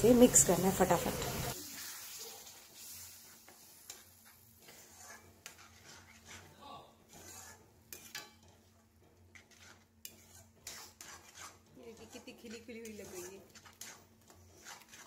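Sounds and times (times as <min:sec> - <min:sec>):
metal spatula scraping pan: 0:00.1 - 0:15.0.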